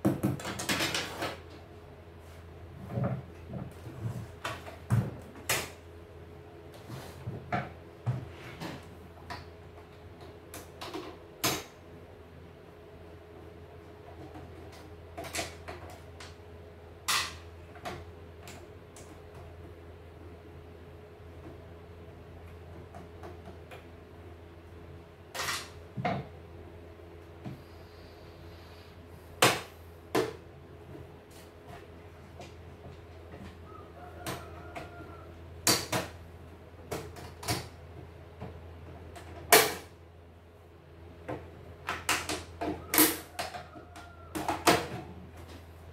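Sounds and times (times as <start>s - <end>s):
steady low hum: 1.4s - 43.3s.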